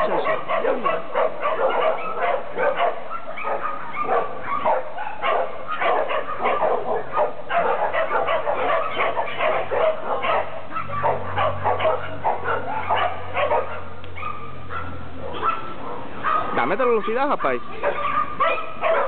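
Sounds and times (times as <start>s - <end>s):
dog barking rapidly: 0.0s - 19.0s.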